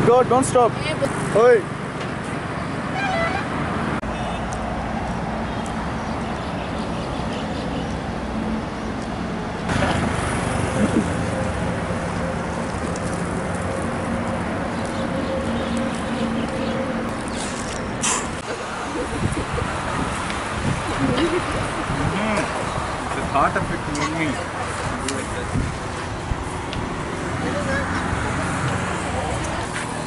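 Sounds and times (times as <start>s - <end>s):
vehicle engine hum: 0.0s - 30.0s
wind and road noise: 0.0s - 30.0s.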